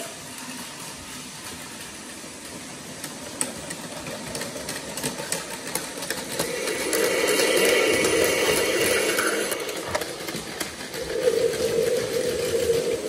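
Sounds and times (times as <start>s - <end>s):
toy train motor whirring: 0.0s - 13.0s
toy train track clicks: 0.0s - 13.0s.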